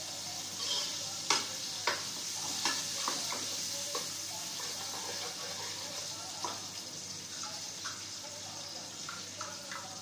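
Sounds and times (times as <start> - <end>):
steady sizzle: 0.0 - 10.0.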